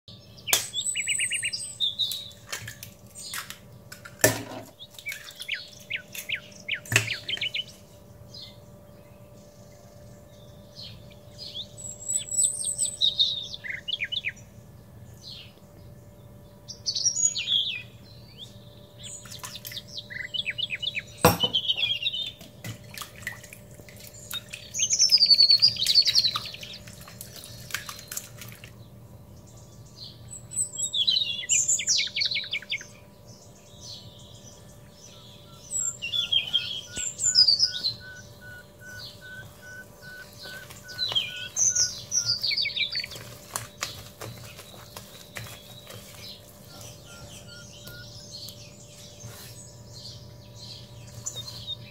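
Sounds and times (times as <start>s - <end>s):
songbirds chirping and trilling: 0.1s - 51.9s.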